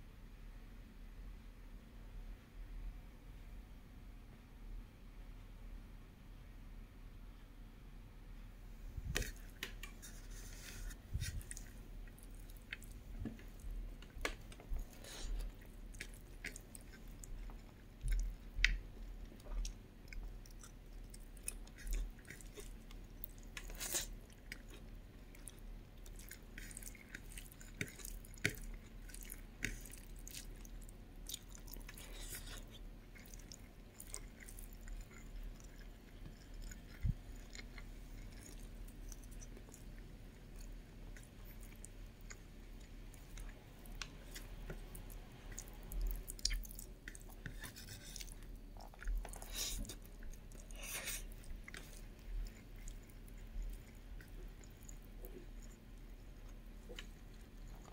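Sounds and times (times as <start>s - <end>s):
person chewing food: 9.0s - 57.9s.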